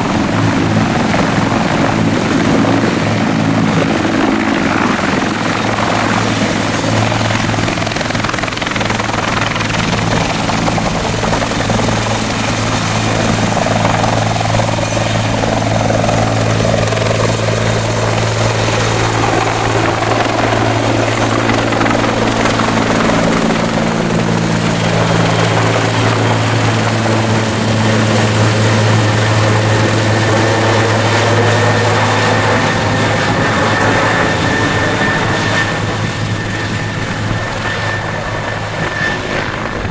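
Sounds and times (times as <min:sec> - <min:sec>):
helicopter rotor beat: 0:00.0 - 0:39.9
high turbine whine: 0:00.0 - 0:39.9.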